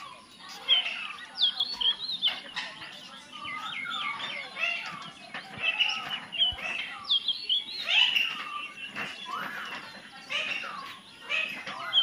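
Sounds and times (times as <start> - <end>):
parakeet flock chirping: 0.0 - 12.0.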